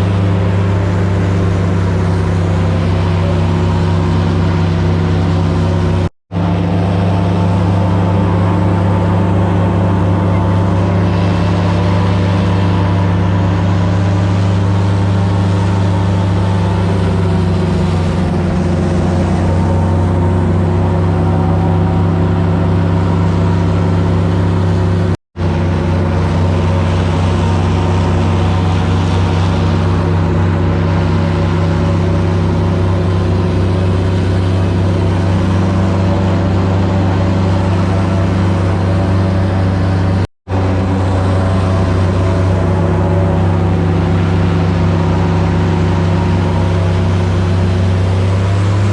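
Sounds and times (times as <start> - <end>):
airboat engine and propeller drone: 0.0 - 48.9.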